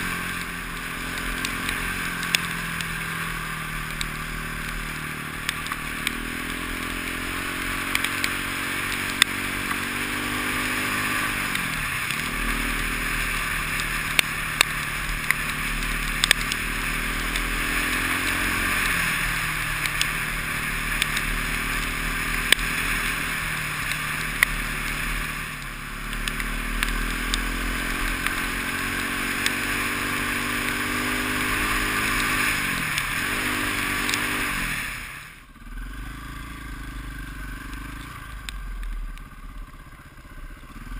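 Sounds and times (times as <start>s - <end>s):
motorcycle engine revving: 0.0s - 40.9s
sharp ticks: 0.1s - 34.5s.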